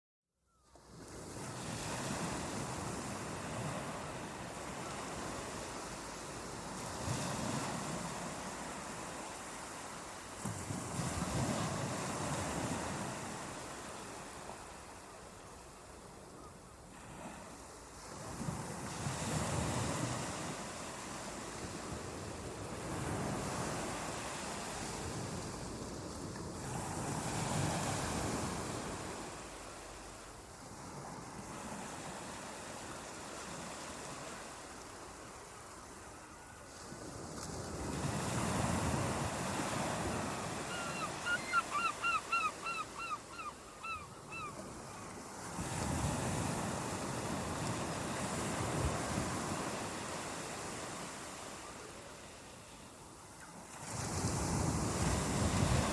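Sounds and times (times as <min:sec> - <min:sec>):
waves breaking on beach: 0:00.9 - 0:16.1, 0:16.8 - 0:55.9.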